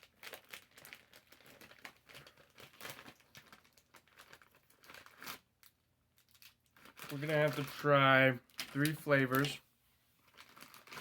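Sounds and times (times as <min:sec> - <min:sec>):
candy wrapper crinkling: 0:00.0 - 0:09.6, 0:10.2 - 0:11.0.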